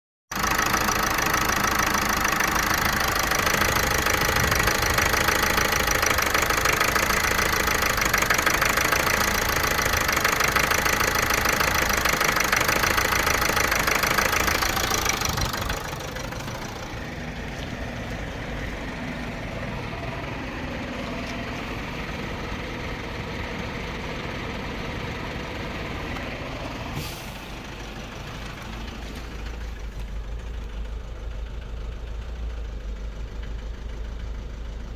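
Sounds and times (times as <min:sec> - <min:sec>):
diesel engine misfiring: 0:00.3 - 0:34.9.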